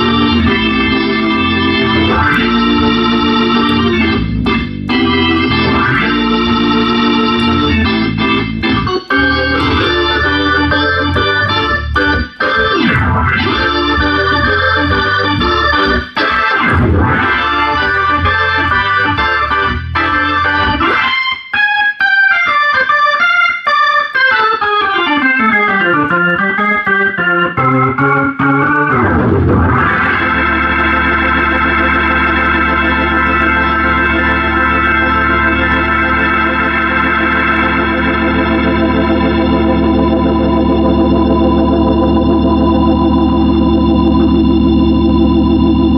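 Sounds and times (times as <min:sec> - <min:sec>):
organ playing chords: 0:00.0 - 0:45.9.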